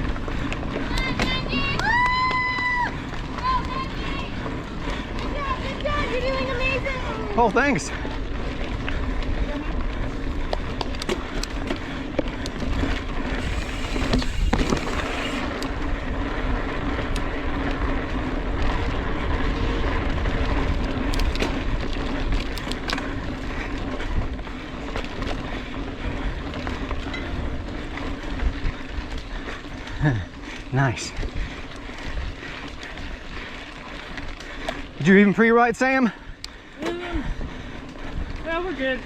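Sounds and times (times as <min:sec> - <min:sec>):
bike clicks and rattles: 0:00.0 - 0:39.0
bike tyres rolling on dirt: 0:00.0 - 0:39.0.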